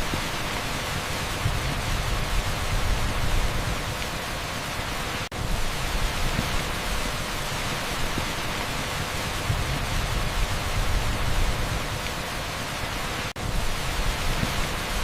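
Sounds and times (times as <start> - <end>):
torrential rain on asphalt: 0.0 - 15.0.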